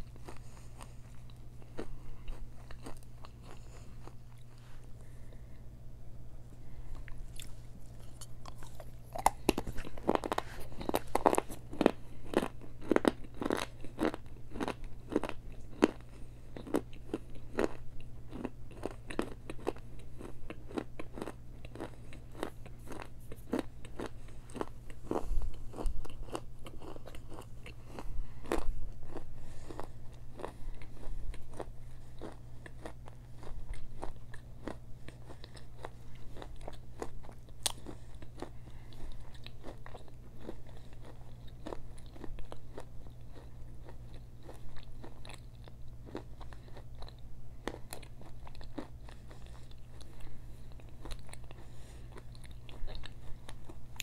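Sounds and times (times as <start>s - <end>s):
crunchy chewing: 0.0s - 5.6s, 6.8s - 54.0s.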